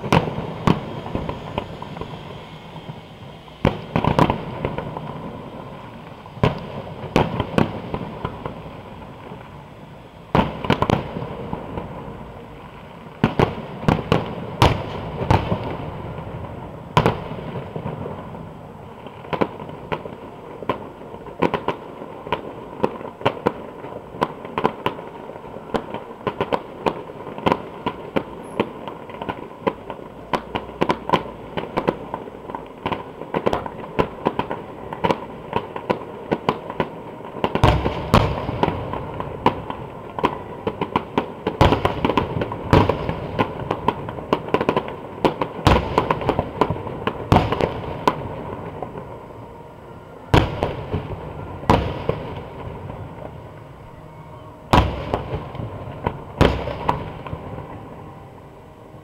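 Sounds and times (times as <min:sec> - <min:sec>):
crackling firework pops: 0:00.0 - 0:09.6, 0:10.3 - 0:49.1, 0:54.7 - 0:57.8.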